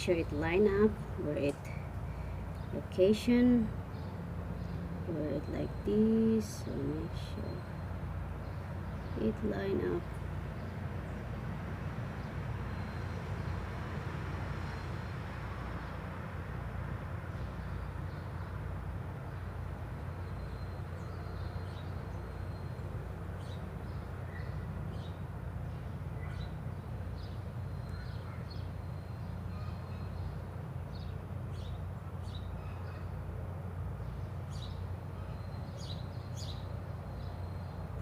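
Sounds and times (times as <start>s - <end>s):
small birds chirping: 0.0s - 13.8s, 17.3s - 33.2s, 33.9s - 38.0s
low outdoor rumble: 0.0s - 38.0s.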